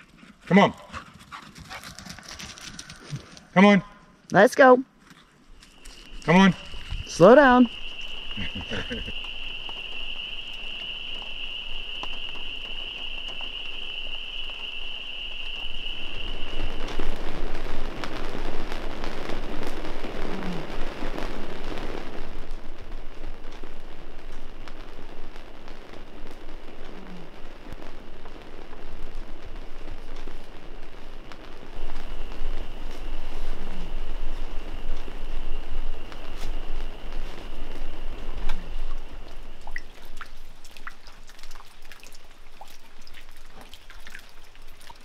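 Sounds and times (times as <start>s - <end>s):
rain on fabric canopy: 6.0s - 28.4s, 29.0s - 45.0s.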